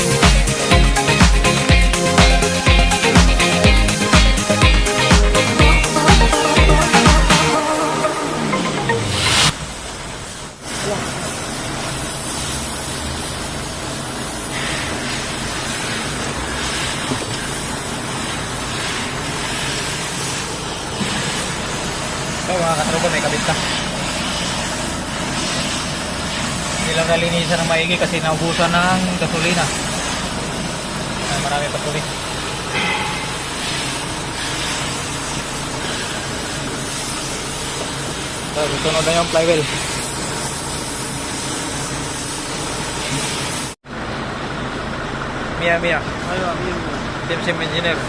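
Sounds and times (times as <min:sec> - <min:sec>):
steady hissing noise: 0:00.0 - 0:43.8.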